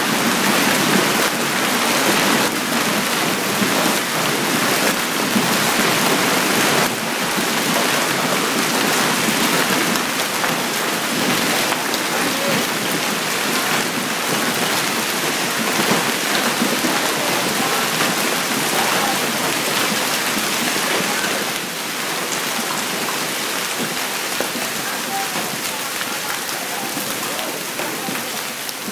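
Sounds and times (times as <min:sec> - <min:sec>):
hail and rain pelting pavement and cars: 0:00.0 - 0:28.9.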